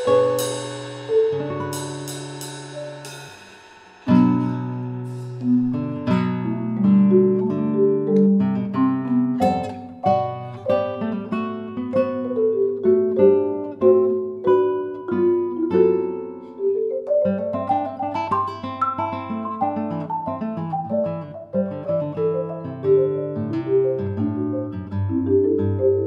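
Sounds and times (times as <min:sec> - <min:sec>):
classical guitar: 0:00.0 - 0:03.2, 0:04.0 - 0:26.0
marimba: 0:00.0 - 0:03.4, 0:04.0 - 0:26.0.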